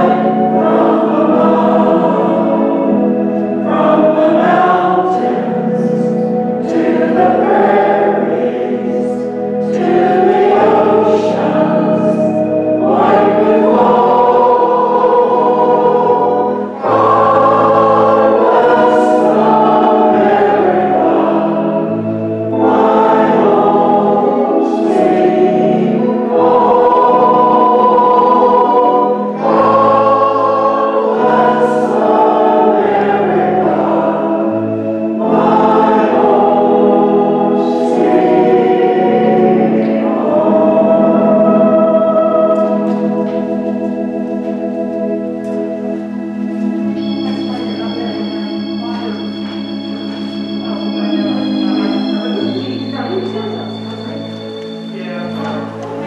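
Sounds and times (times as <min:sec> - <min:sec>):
church organ: 0:00.0 - 0:56.0
voices singing a hymn: 0:00.0 - 0:56.0.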